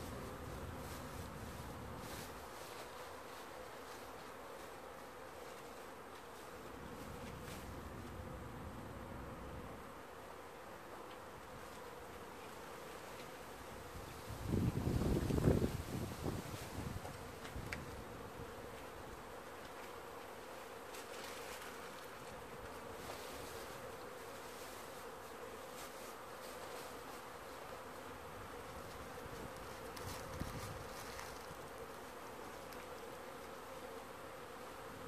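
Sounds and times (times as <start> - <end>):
bees buzzing: 0.0 - 35.0.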